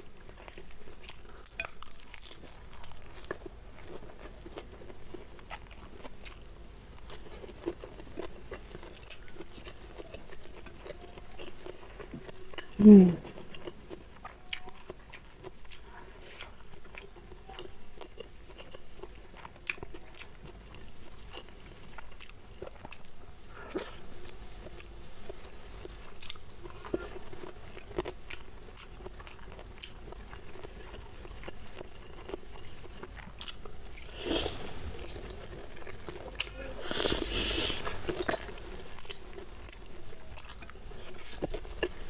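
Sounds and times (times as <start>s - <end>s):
close chewing: 0.0s - 24.0s, 24.6s - 42.0s.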